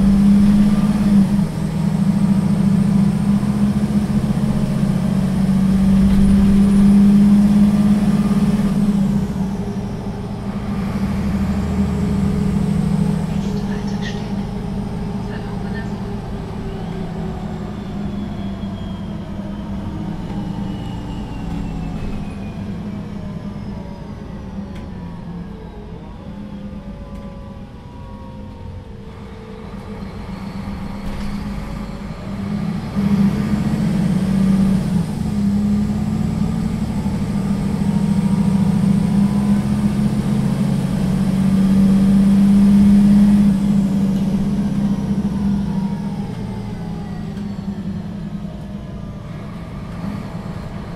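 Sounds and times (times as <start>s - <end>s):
bus engine with rising whine: 0.0s - 50.9s.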